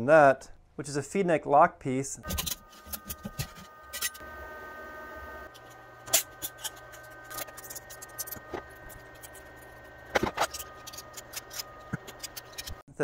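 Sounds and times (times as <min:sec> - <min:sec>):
faint steady hum: 0:02.2 - 0:12.8.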